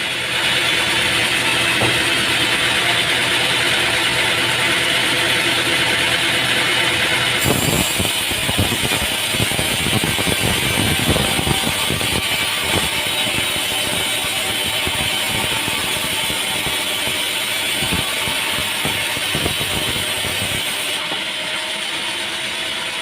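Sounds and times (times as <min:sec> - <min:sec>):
heavy machinery running: 0:00.0 - 0:23.0.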